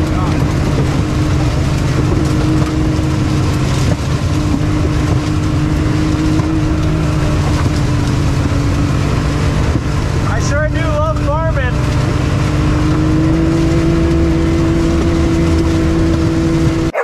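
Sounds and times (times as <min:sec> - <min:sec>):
engine droning under load: 0:00.0 - 0:17.0.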